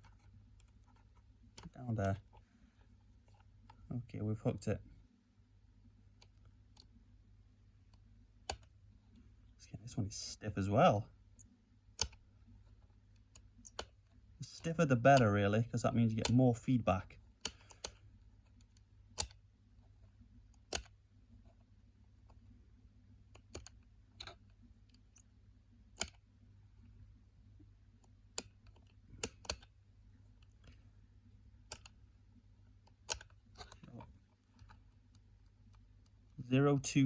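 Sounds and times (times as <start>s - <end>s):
faint low hum: 0.0s - 37.0s.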